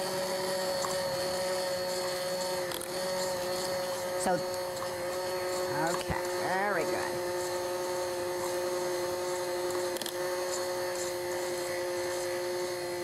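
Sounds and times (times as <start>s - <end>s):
electric stand mixer whipping: 0.0s - 13.0s.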